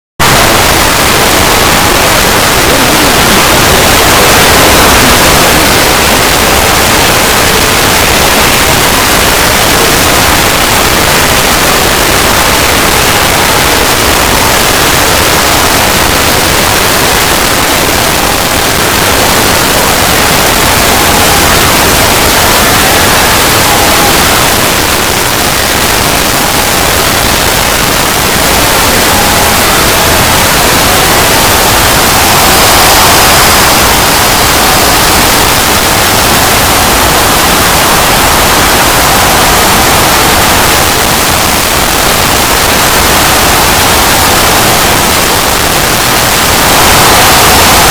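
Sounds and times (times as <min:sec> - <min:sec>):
harsh static noise: 0:00.0 - 0:47.9.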